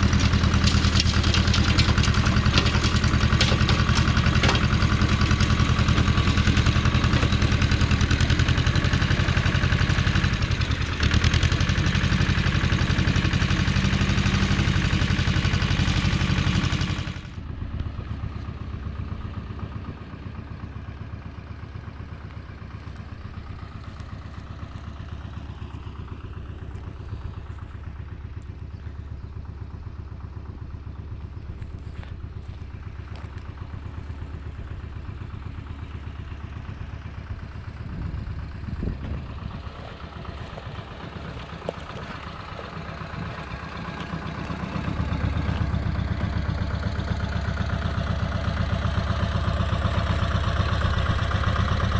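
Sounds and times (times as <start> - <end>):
engine clatter: 0.0 - 51.9
tractor diesel engine running: 0.0 - 51.9.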